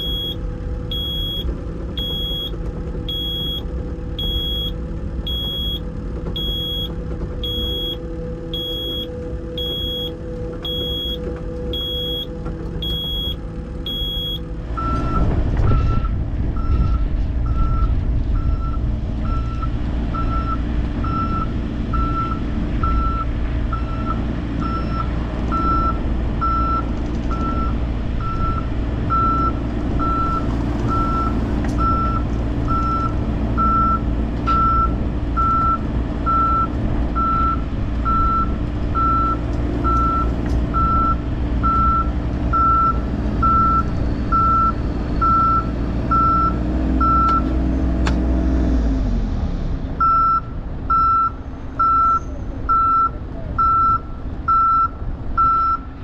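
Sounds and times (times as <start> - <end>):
reversing alarm beeping: 0.0 - 47.5, 50.0 - 55.9
diesel engine running: 0.0 - 56.0.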